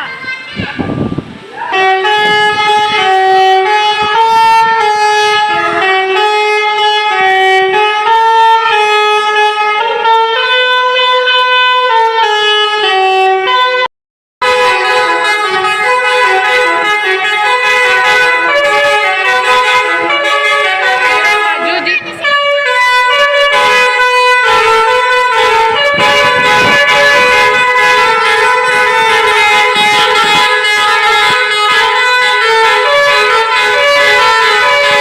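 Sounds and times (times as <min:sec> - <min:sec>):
musical air horn melody: 0:01.7 - 0:35.0.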